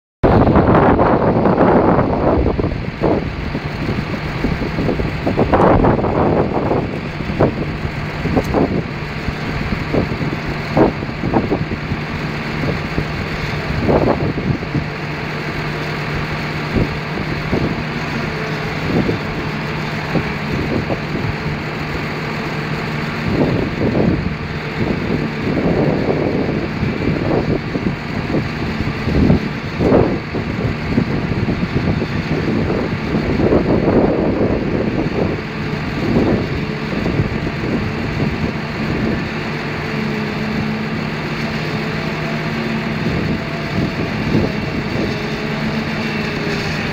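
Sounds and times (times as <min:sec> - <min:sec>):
tractor engine drone: 0:00.2 - 0:46.9
wind buffeting microphone: 0:00.2 - 0:46.9.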